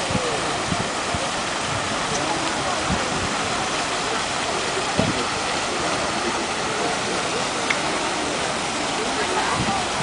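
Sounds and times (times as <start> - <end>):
faint voices of people: 0.0 - 10.0
fountain water splashing: 0.0 - 10.0.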